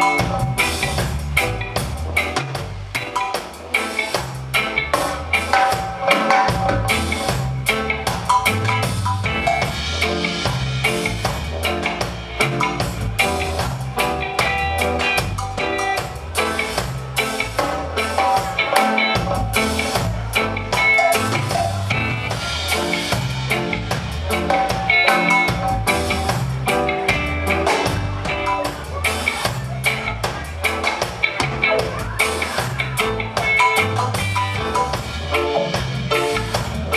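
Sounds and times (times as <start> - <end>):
bass guitar pulse: 0.0 - 36.9
drum kit: 0.0 - 36.9
electric guitar: 0.0 - 36.9.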